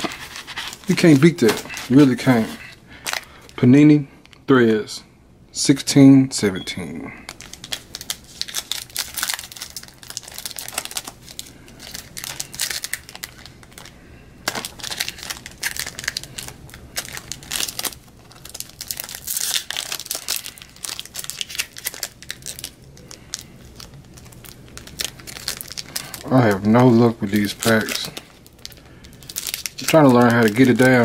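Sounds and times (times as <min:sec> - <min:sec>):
foil wrapper crinkling and tearing: 0:00.0 - 0:03.6, 0:07.3 - 0:31.0.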